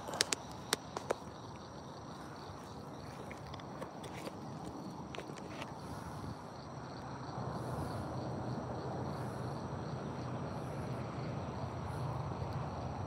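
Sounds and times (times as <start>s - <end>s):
insects trilling: 0.0s - 13.0s
steady rushing outdoor noise: 0.0s - 13.0s.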